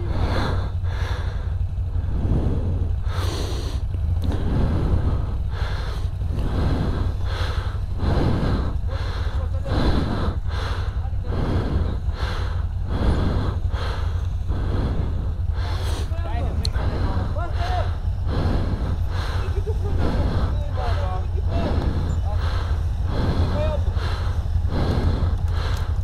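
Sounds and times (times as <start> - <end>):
wheels churning in dry leaves: 0.0 - 12.9, 13.6 - 26.0
atv engine revving: 0.0 - 26.0.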